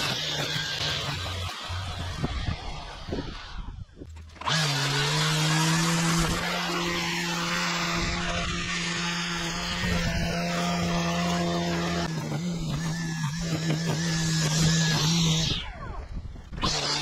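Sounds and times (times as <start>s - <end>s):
string trimmer whining: 0.0s - 17.0s.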